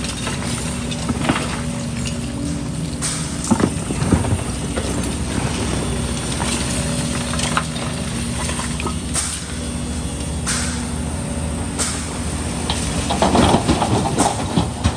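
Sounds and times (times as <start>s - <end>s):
sharp metal knocks and clanks: 0.0s - 11.0s, 11.7s - 14.9s
diesel excavator engine running: 0.0s - 14.9s.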